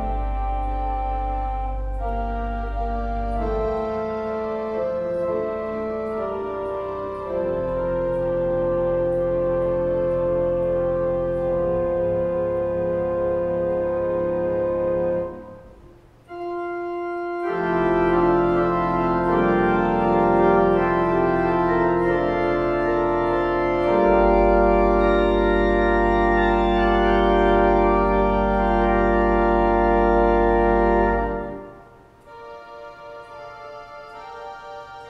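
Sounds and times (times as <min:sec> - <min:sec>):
organ playing sustained chords: 0:00.0 - 0:35.0.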